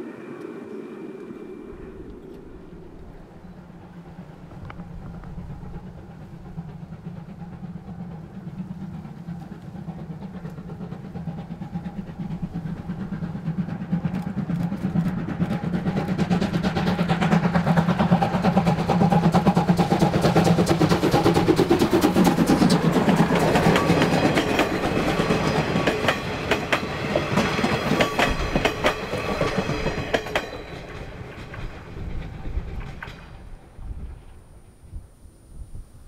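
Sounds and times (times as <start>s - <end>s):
steam locomotive exhaust beat: 0.0s - 35.8s.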